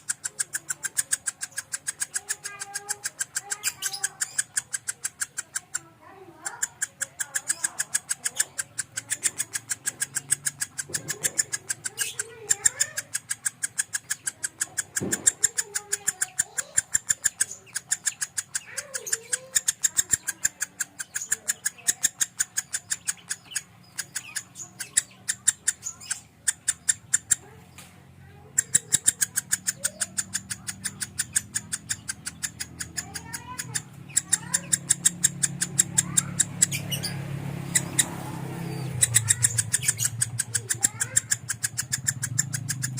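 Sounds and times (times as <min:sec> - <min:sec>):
lovebird chirping: 0:00.0 - 0:42.9.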